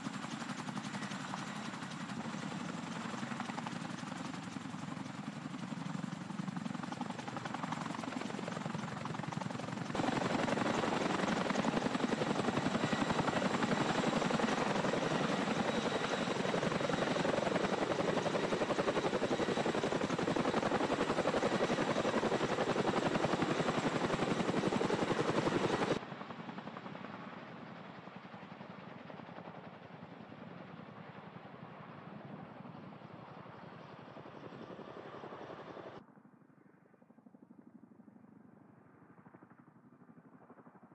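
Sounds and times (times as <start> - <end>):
helicopter rotor and turbine noise: 0.0 - 40.9.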